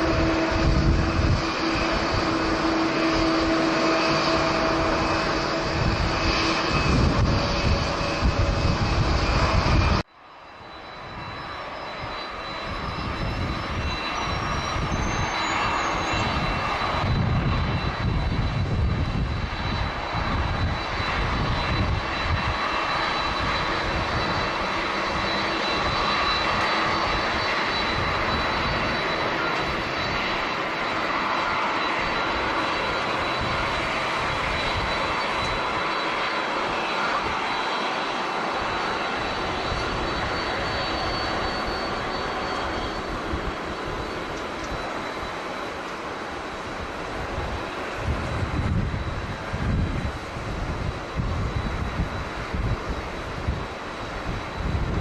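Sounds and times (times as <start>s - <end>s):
wind buffeting microphone: 0.0s - 10.0s, 11.0s - 45.6s, 46.3s - 55.0s
jet engines running: 0.0s - 55.0s.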